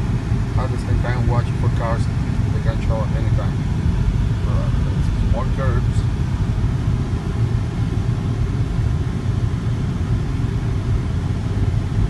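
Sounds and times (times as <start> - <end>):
car driving on road: 0.0 - 12.0.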